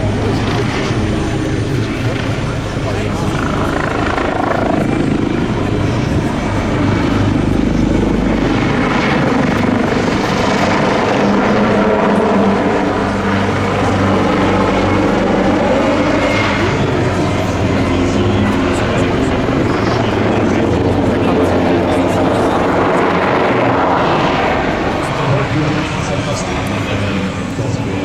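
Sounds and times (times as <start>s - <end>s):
helicopter rotor and turbine: 0.0s - 28.0s.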